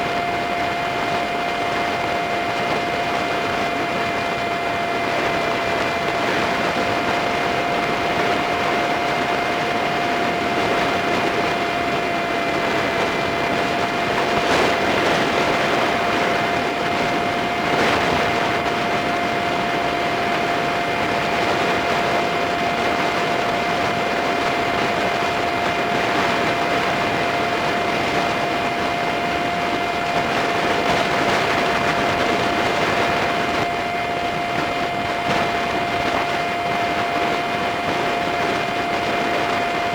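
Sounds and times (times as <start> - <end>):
thin engine whine: 0.0 - 39.9
wind and road noise: 0.0 - 39.9.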